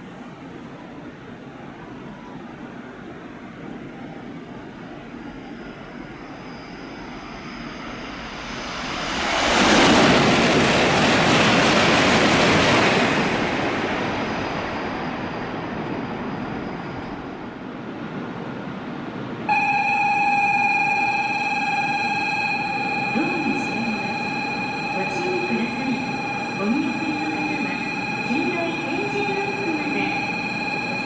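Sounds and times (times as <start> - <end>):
high-speed train passing: 0.0 - 31.0.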